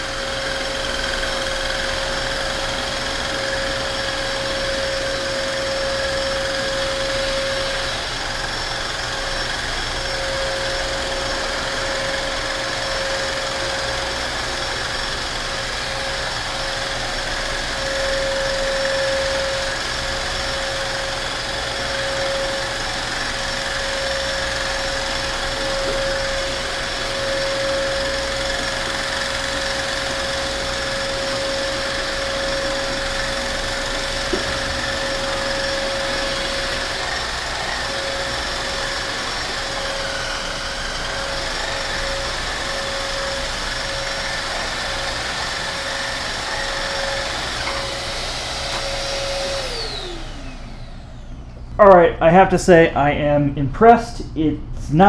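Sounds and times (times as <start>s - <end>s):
suction noise: 0.0s - 51.4s
floor cleaner motor whine: 0.0s - 52.0s.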